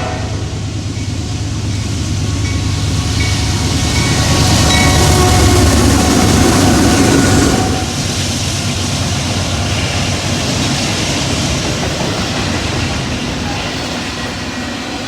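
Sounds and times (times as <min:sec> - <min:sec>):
train rumbling and rattling: 0:00.0 - 0:15.0.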